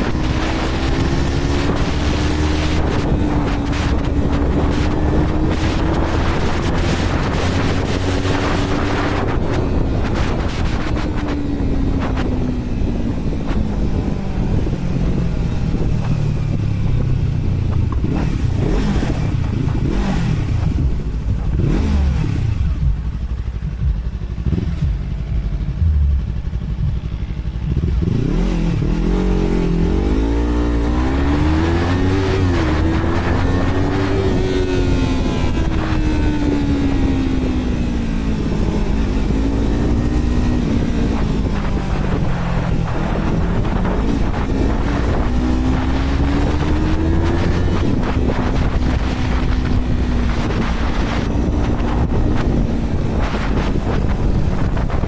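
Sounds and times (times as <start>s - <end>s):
motorcycle engine revving: 0.0s - 55.0s
wind noise on microphone: 0.0s - 55.0s.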